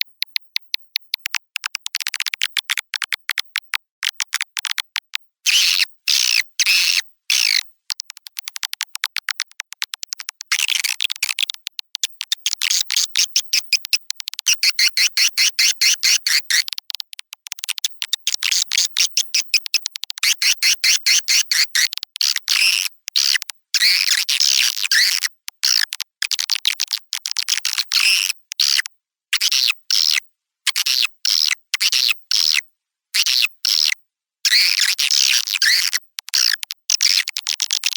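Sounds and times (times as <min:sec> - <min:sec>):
high-pitched bird clicks and chirps: 0:00.0 - 0:32.6, 0:33.2 - 0:37.9.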